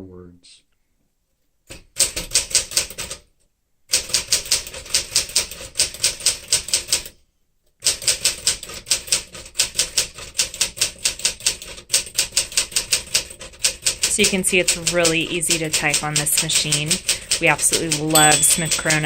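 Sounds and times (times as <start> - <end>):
manual typewriter typing: 1.7 - 3.3, 3.9 - 7.1, 7.8 - 19.0.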